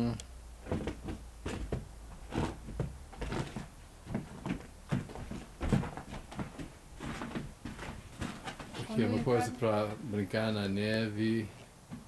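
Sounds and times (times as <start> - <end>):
footsteps on wooden boards: 0.6 - 10.0, 11.6 - 12.0.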